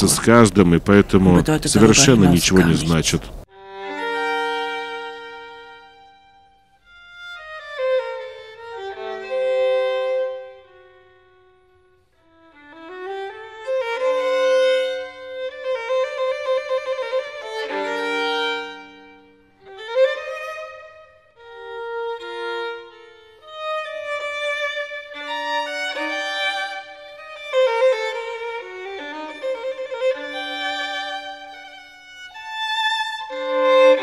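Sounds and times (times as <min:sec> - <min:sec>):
slow violin melody: 0:03.4 - 0:34.0.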